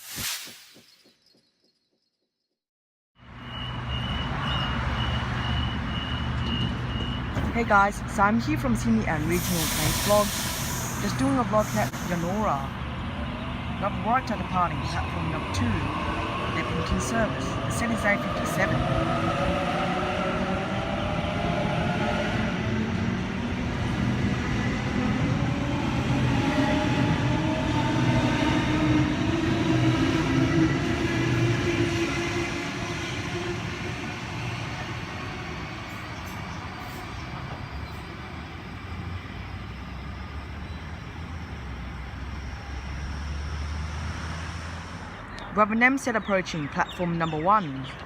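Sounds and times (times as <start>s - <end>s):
train low hum: 3.2s - 48.0s.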